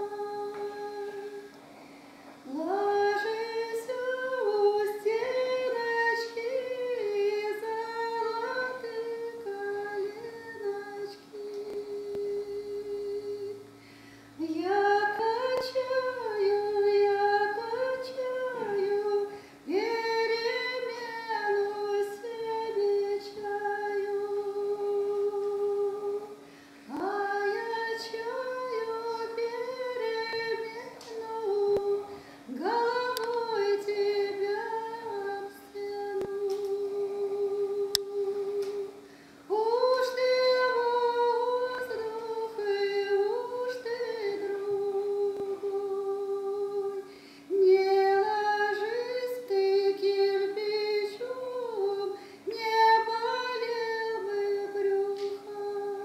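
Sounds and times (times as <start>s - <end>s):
woman singing a lullaby: 0.0s - 1.6s, 2.4s - 56.0s.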